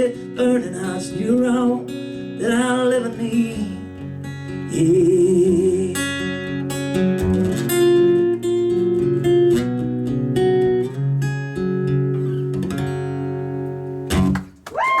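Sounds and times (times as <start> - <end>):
acoustic guitar strumming: 0.0 - 14.6.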